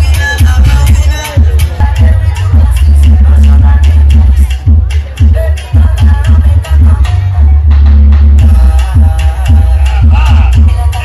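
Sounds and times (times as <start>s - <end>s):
music with heavy bass and beat: 0.0s - 11.0s.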